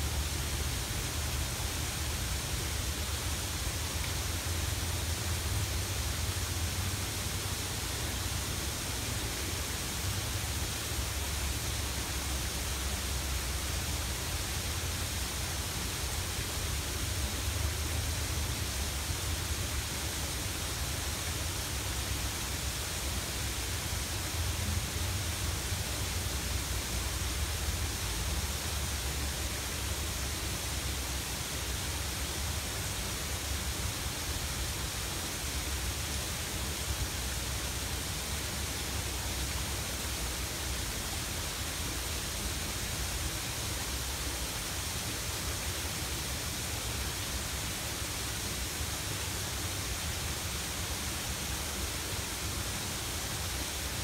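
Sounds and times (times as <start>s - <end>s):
waterfall pouring into pond: 0.0s - 54.0s.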